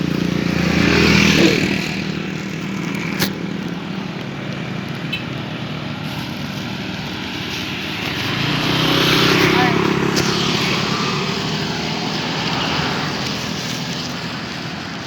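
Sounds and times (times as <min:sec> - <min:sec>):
hum of traffic: 0:00.0 - 0:15.0
vehicle passing: 0:00.0 - 0:15.0.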